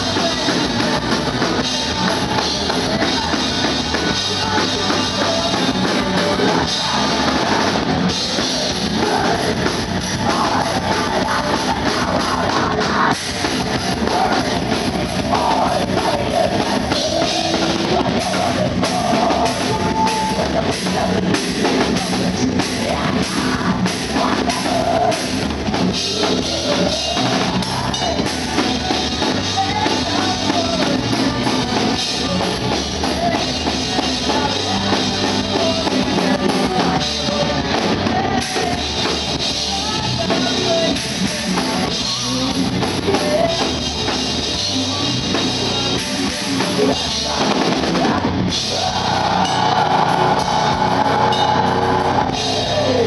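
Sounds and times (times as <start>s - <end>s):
distorted electric guitars: 0.0s - 53.0s
loud drum kit: 0.0s - 53.0s.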